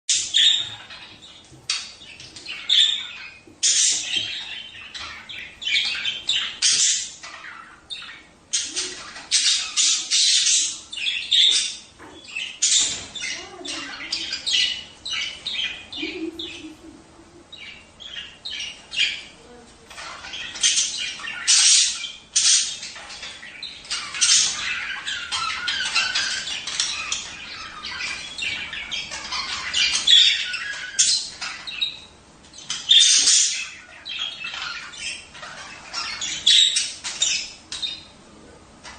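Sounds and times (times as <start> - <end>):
budgerigars chattering: 0.1 - 38.2.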